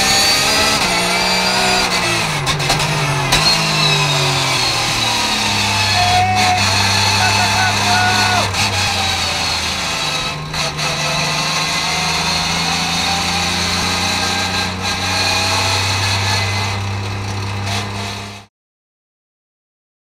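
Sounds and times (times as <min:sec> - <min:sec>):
car engine running at low revs: 0:00.0 - 0:18.5.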